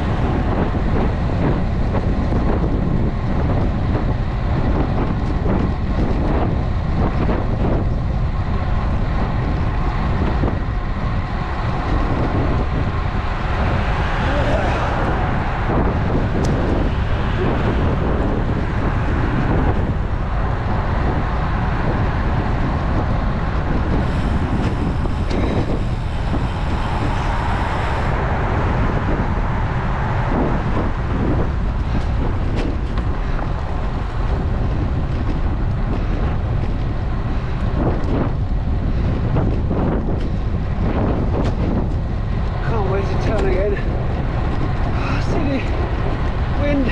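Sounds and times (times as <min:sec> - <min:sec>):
road noise: 0:00.0 - 0:46.9
wind rushing over microphone: 0:00.0 - 0:46.9.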